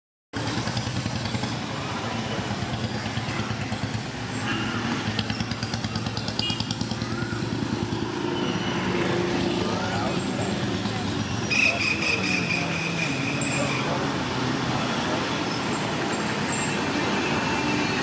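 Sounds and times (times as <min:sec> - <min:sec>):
steady road traffic: 0:00.3 - 0:18.0
motorcycle engines passing: 0:00.4 - 0:18.0.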